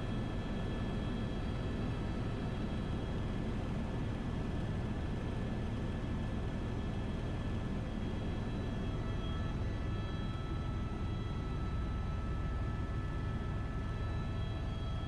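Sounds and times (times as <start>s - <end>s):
faint high whine: 0.0s - 15.0s
helicopter rotor rumble: 0.0s - 15.0s.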